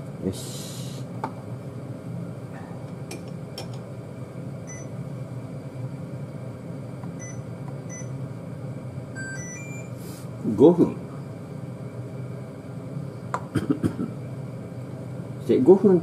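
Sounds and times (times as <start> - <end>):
cooling fan: 0.0 - 16.0
induction cooktop humming: 0.0 - 16.0.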